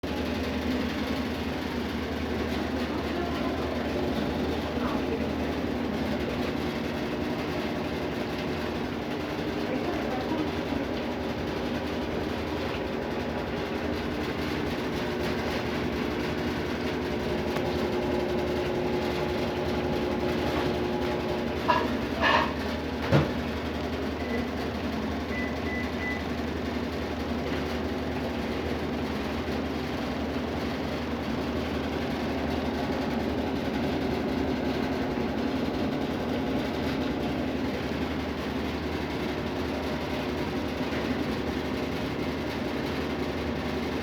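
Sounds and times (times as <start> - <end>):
washing machine spinning: 0.0 - 44.0.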